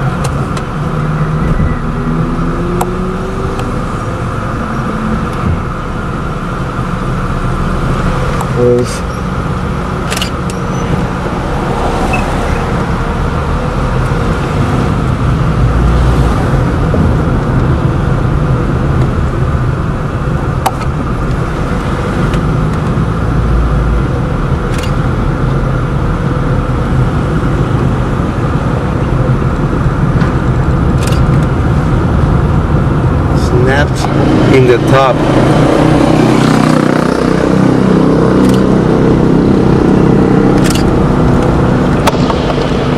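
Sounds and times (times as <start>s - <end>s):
car engine and tyre noise: 0.0s - 42.9s.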